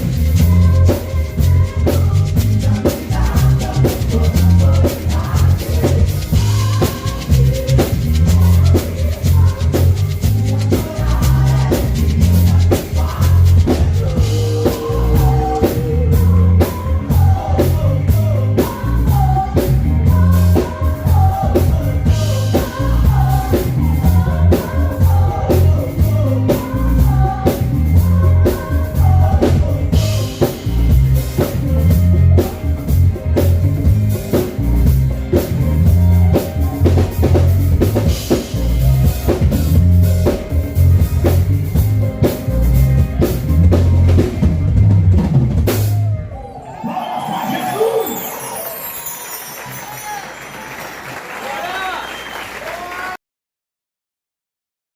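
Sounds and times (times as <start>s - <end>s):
instrumental song with drums and bass: 0.0s - 46.4s.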